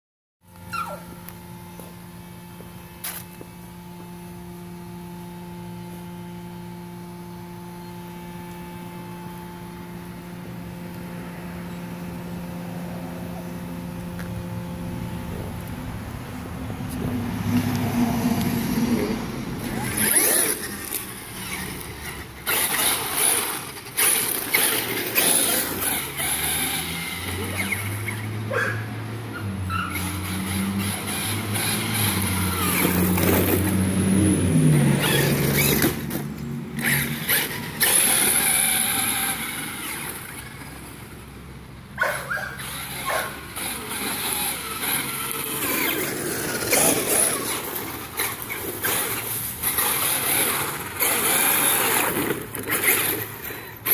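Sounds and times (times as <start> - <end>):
electric motor whining: 0.5 - 41.5, 42.3 - 53.9.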